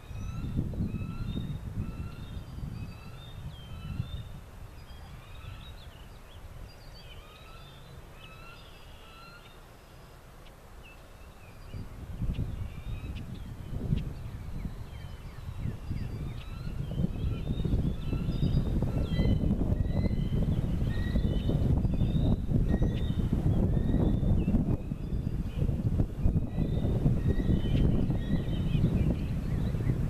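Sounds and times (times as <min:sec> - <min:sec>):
wind gusting on microphone: 0:00.0 - 0:09.2, 0:11.2 - 0:30.0
birds chirping: 0:00.0 - 0:30.0.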